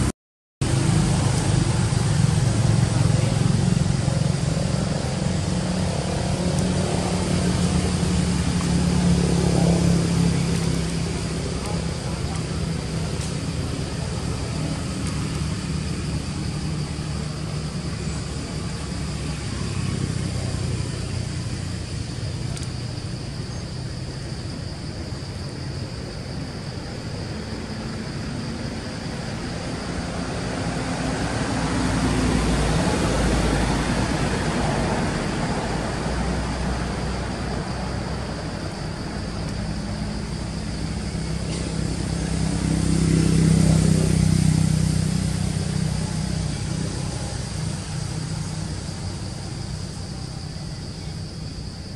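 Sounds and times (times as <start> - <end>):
vehicle engine running: 0.0 - 23.5, 27.2 - 51.9.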